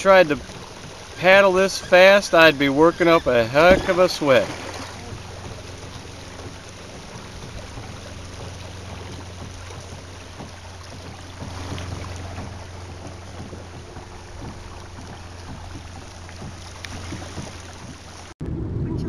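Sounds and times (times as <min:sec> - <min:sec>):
water rushing: 0:00.0 - 0:18.4
low steady rumble: 0:00.0 - 0:19.0.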